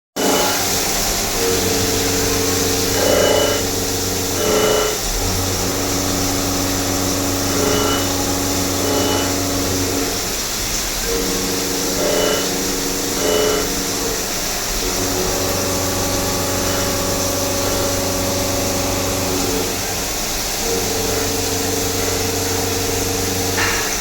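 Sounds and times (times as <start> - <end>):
machine hum: 0.2 - 24.0
machining centre hissing: 0.2 - 24.0.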